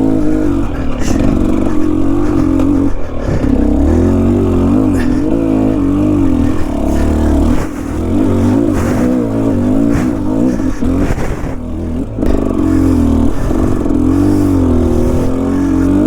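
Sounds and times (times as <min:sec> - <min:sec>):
bike knocking on rough trail: 0:00.0 - 0:16.0
dirt bike engine revving: 0:00.0 - 0:16.0.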